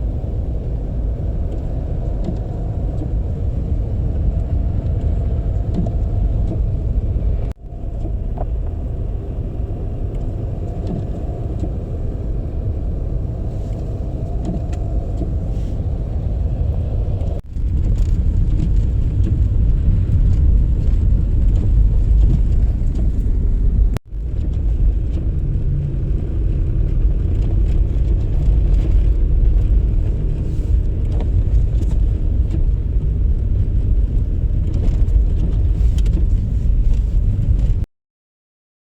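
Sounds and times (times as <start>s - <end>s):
car engine and road noise: 0.0s - 37.9s.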